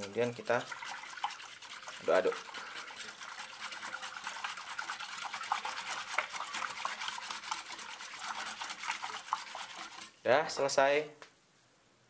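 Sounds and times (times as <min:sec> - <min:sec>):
wire whisk beating batter in bowl: 0:00.0 - 0:10.7.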